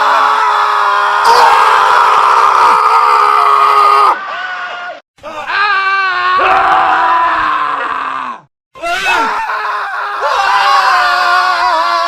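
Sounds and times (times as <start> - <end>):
men screaming: 0.0 - 12.0.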